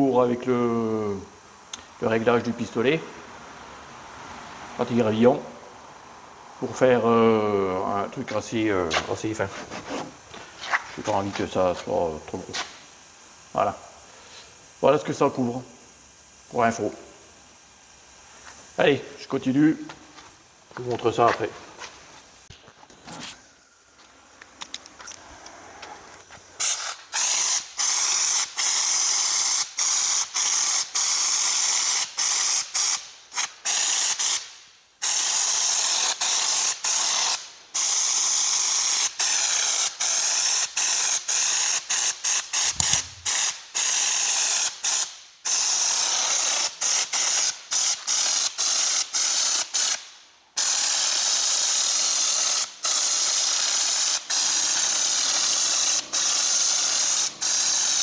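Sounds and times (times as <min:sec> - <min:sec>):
spray gun hissing: 0:00.0 - 0:58.0.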